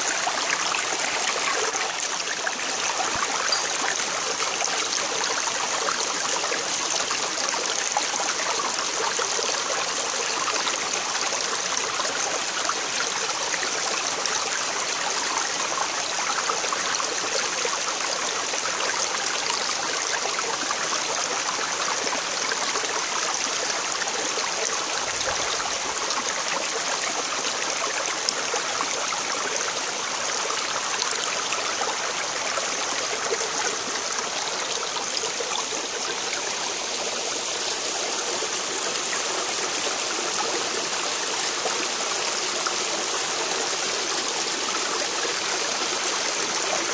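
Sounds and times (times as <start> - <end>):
creek water rushing over stones: 0.0 - 46.9.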